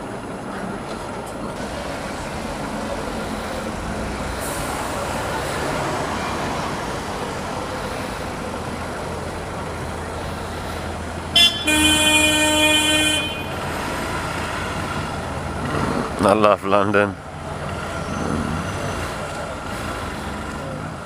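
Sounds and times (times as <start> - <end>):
road and traffic noise: 0.0 - 21.0.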